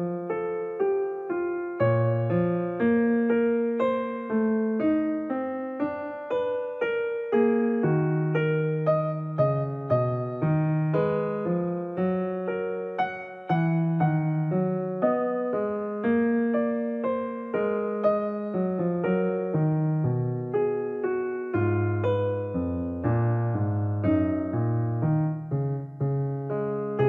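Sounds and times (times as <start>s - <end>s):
gentle piano music: 0.0s - 27.0s.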